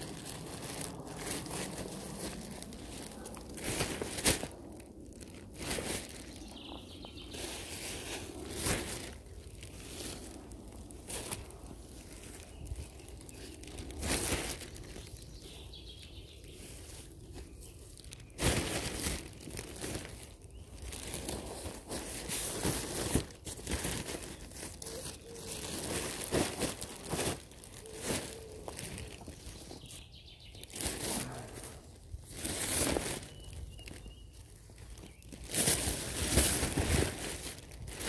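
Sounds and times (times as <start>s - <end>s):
plastic bag crinkling: 0.0s - 16.1s, 16.7s - 38.0s.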